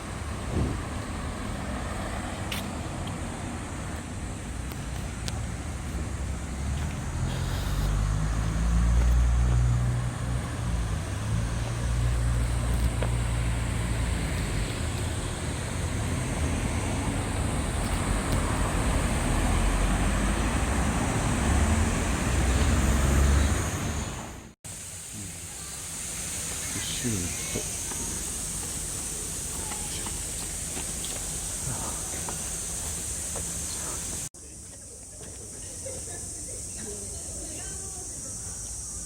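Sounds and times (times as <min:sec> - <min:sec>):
vehicle engine drone: 0:00.0 - 0:34.3
road noise: 0:00.0 - 0:39.0.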